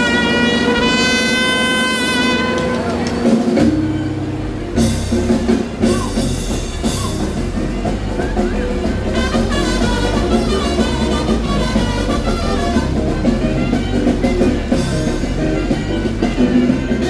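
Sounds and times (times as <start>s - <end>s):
band music with brass: 0.0s - 17.0s
bass line: 0.0s - 17.0s
held horn note: 0.0s - 17.0s
steady drum beat: 0.0s - 17.0s.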